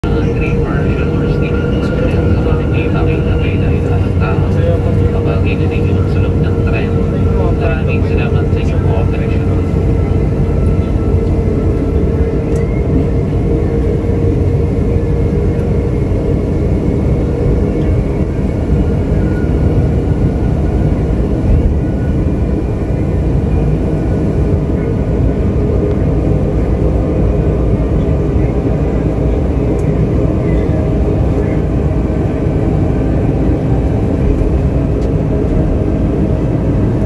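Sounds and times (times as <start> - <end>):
train low rumble: 0.0 - 37.0.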